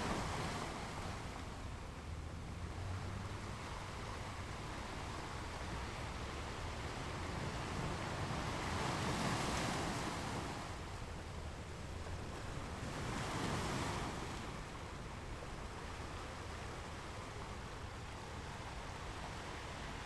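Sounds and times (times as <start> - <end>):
ocean waves breaking: 0.0 - 1.7, 2.8 - 20.0.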